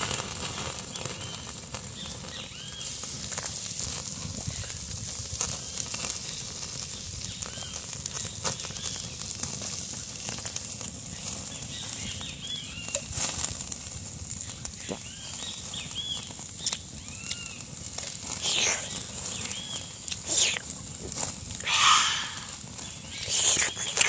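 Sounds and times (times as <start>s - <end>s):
meat sizzling on a grill: 0.0s - 24.0s
wood fire crackling: 0.0s - 24.0s.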